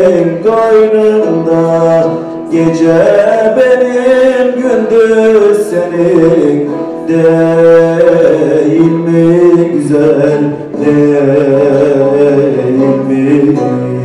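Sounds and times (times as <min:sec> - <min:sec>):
man singing folk melody: 0:00.0 - 0:14.0
plucked lute accompaniment: 0:00.0 - 0:14.0.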